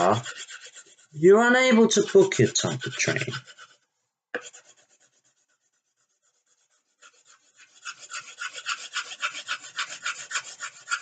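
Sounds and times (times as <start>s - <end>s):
pencil shading on paper: 0.0s - 11.0s.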